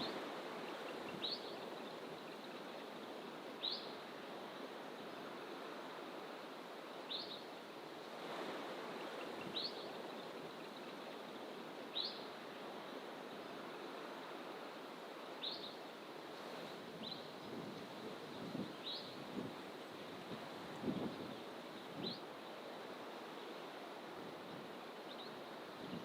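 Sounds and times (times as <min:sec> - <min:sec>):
distant ocean surf: 0:00.0 - 0:26.0.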